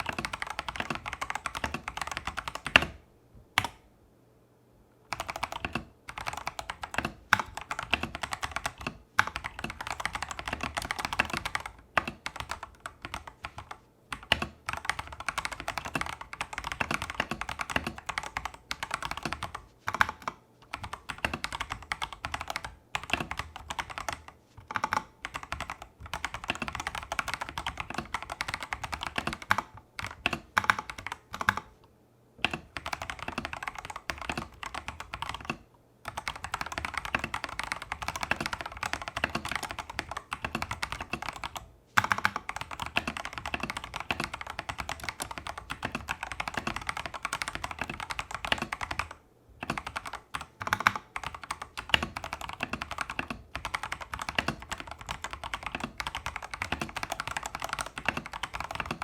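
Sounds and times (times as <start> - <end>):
mechanical keyboard typing: 0.0 - 3.0, 3.6 - 3.8, 5.1 - 31.8, 32.4 - 59.0.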